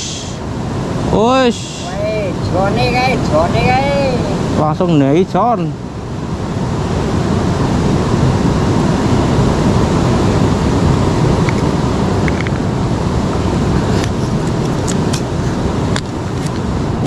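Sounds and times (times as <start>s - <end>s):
river water rushing: 0.0s - 4.7s, 5.7s - 17.0s.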